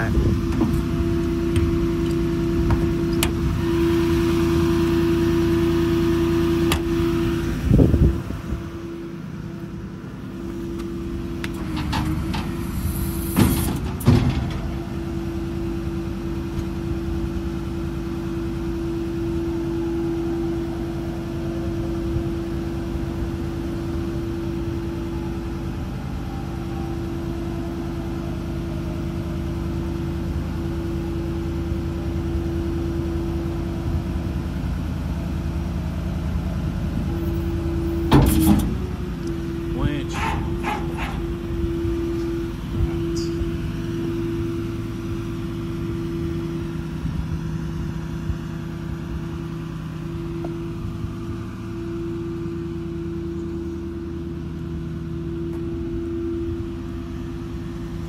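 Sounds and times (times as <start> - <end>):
constant whine: 0.0 - 58.0
diesel truck engine idling: 0.0 - 58.0.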